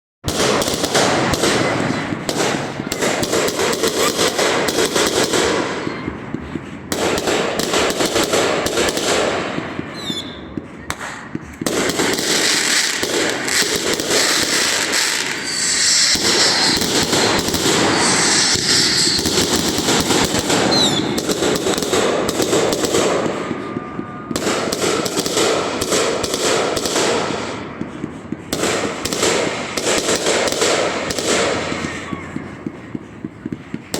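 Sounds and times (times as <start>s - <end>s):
fireworks bangs and crackling: 0.2s - 33.9s
firework whistles: 0.3s - 33.9s.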